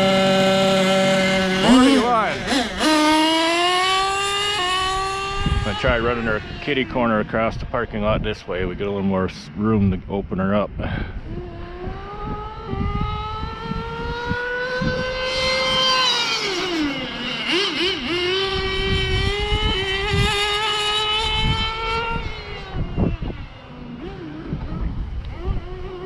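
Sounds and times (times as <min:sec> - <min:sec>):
rc car engine revving: 0:00.0 - 0:08.0, 0:11.3 - 0:26.0.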